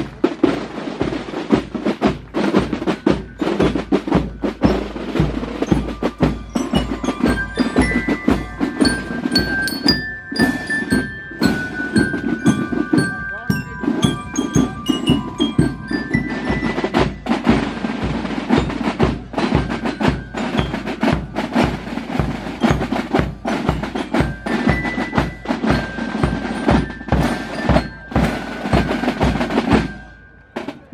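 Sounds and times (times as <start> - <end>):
cymbals: 0.0 - 30.9
side drums rattling: 0.0 - 30.9
glockenspiel notes: 0.2 - 30.9.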